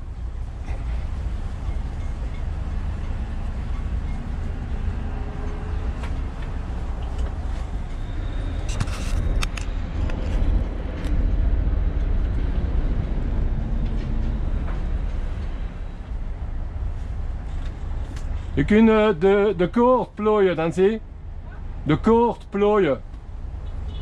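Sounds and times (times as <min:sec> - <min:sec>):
boat diesel engine rumbling: 0:00.0 - 0:22.8.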